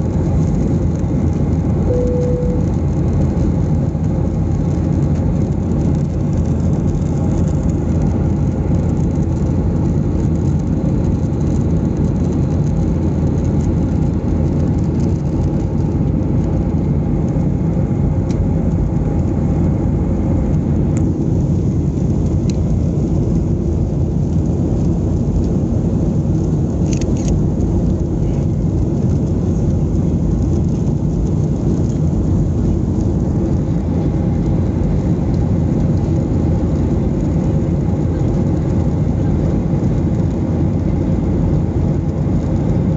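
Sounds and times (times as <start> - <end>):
airplane cabin low roar: 0.0 - 42.9.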